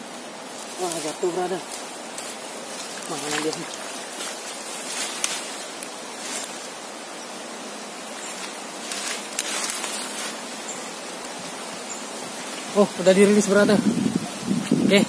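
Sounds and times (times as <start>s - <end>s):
grass and leaves rustling: 0.0s - 15.0s.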